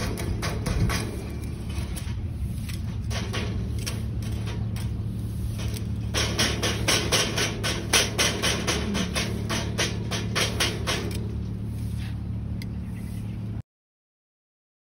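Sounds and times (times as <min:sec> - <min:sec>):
low drone: 0:00.0 - 0:13.6.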